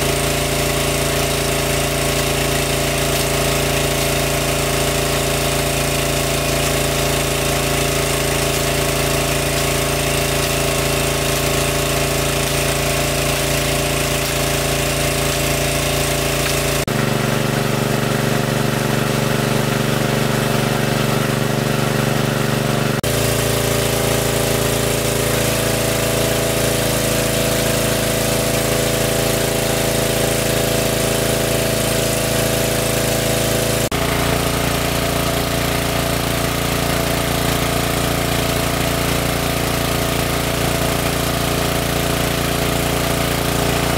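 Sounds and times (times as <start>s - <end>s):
water pump engine droning: 0.0s - 43.9s.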